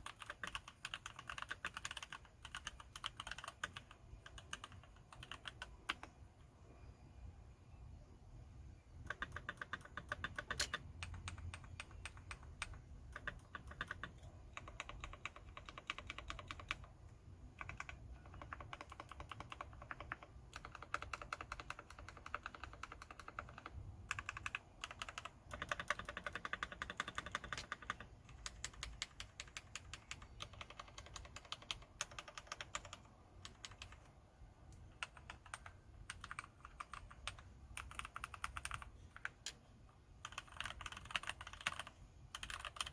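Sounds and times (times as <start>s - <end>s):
mechanical keyboard typing: 0.0s - 6.2s, 8.9s - 42.9s.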